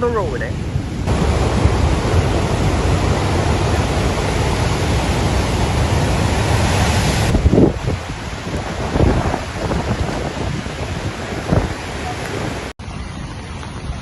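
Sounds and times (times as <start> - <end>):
hurricane wind: 0.0 - 14.0
storm surf: 0.0 - 14.0.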